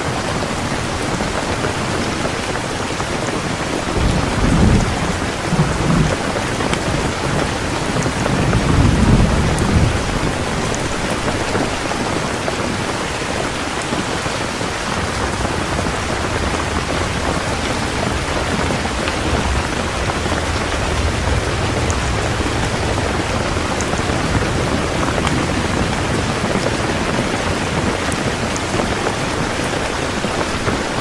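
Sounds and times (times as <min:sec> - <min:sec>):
heavy rain falling: 0:00.0 - 0:31.0
distant thunder rumbling: 0:00.7 - 0:31.0.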